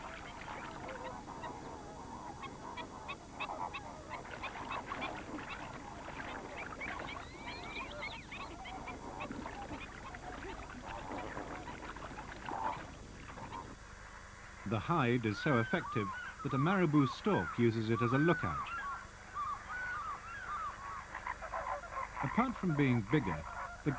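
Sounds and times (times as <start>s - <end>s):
flock of flamingos honking: 0.0s - 23.9s.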